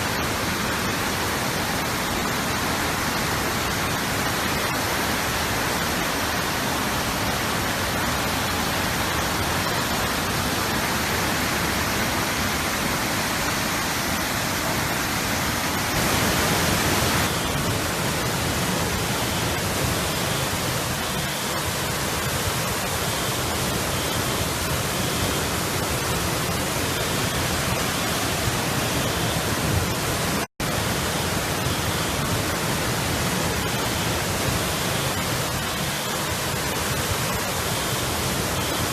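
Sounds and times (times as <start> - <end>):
floodwater roaring: 0.0 - 38.9.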